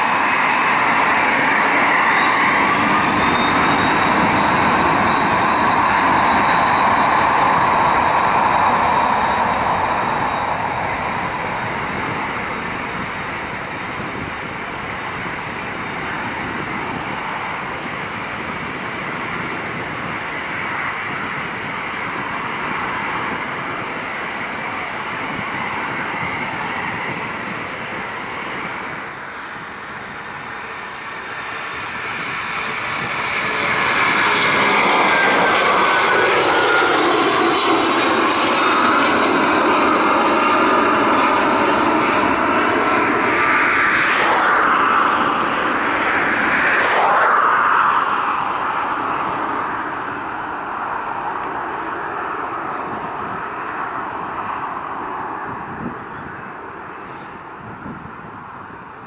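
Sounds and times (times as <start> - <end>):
jet engines roaring with high whine: 0.0 - 59.0.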